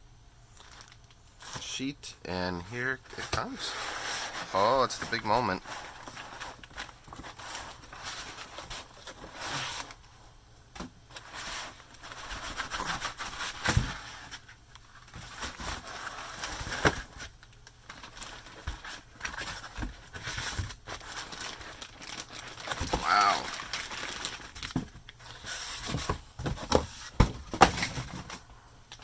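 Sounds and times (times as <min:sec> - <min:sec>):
packaging rustling and scraping: 0:00.5 - 0:01.7, 0:02.6 - 0:29.0.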